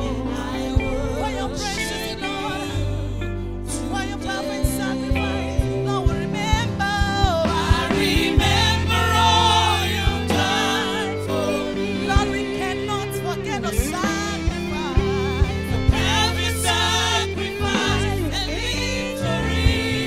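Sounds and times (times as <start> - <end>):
bass line: 0.0 - 20.0
women singing gospel song: 0.0 - 20.0.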